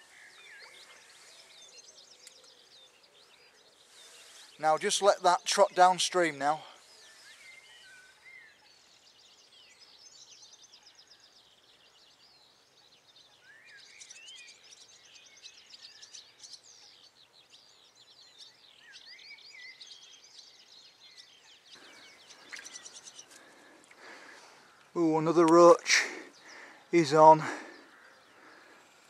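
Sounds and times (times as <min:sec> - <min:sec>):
small birds singing and chirping: 0:00.0 - 0:29.0.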